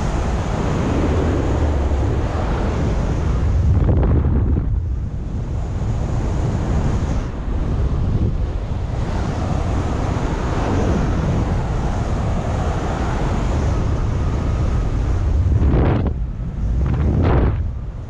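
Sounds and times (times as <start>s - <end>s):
wind buffeting a microphone: 0.0s - 18.0s.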